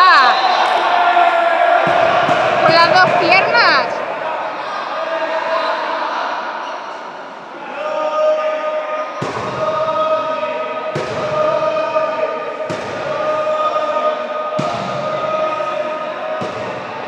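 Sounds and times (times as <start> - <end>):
crowd chanting: 0.0 - 17.0.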